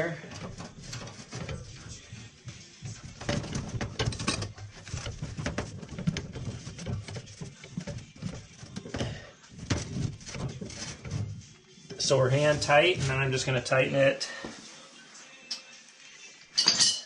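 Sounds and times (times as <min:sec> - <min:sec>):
clothing and hose rustling: 0:00.0 - 0:15.3.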